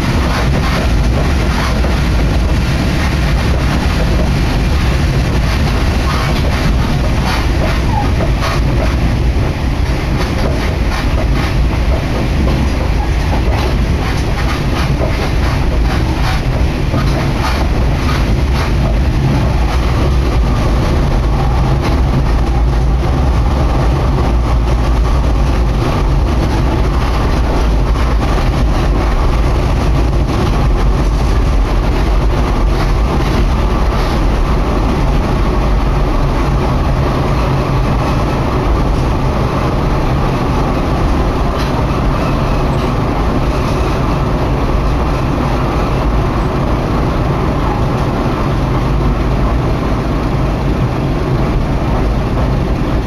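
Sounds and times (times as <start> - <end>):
clacks over rail joints: 0.0 - 46.6
railcar engine and wheels rumbling: 0.0 - 53.0.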